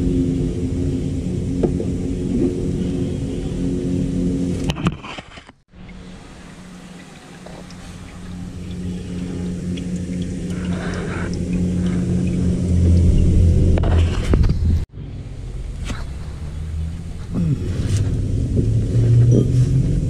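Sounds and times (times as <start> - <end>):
held low tones: 0.0 - 4.9, 5.7 - 20.0
low mechanical hum: 0.0 - 5.1, 5.7 - 20.0.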